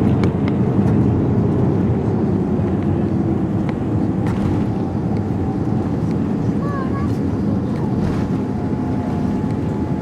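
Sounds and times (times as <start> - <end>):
airliner cabin engine rumble: 0.0 - 10.0.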